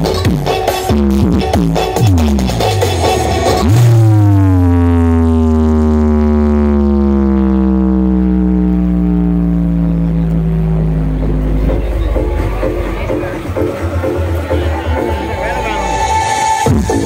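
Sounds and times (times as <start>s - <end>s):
busy electronic music: 0.0s - 17.0s
deep bass drone: 0.0s - 17.0s
falling synth tone: 2.0s - 17.0s.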